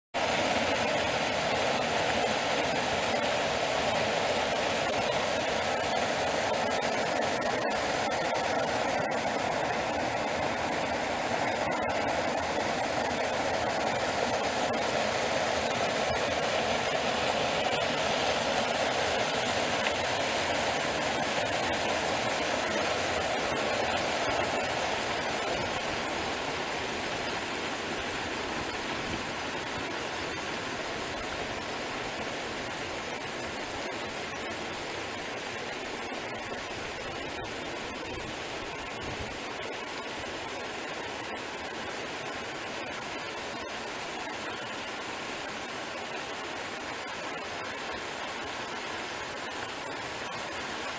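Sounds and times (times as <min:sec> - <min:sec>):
brook rushing and babbling: 0:00.2 - 0:50.9.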